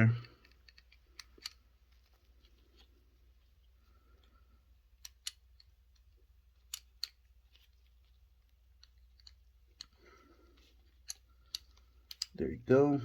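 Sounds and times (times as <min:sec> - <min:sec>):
pistol parts clicking: 0:00.1 - 0:03.4, 0:04.1 - 0:12.4.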